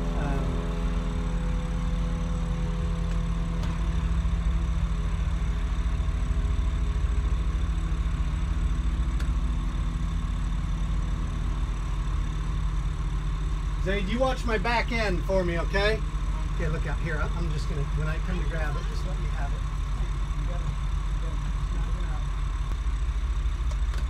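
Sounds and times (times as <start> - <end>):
boat engines idling: 0.0 - 24.0.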